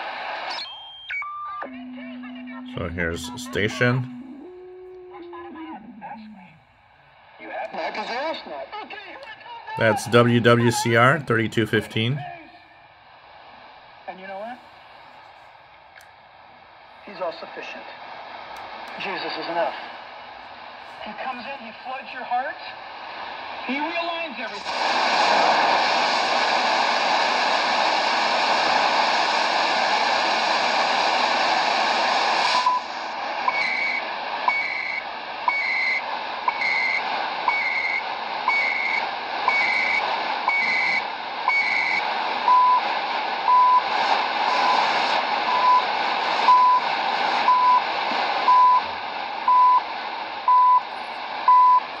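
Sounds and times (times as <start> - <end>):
radio static hissing: 1.6 - 8.8, 9.8 - 12.6, 17.1 - 52.0.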